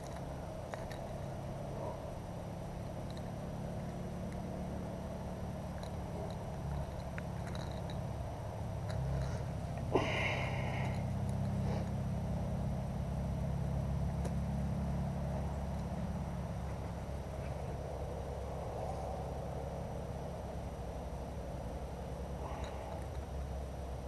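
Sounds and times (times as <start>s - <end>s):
low handling rumble: 0.0s - 24.0s.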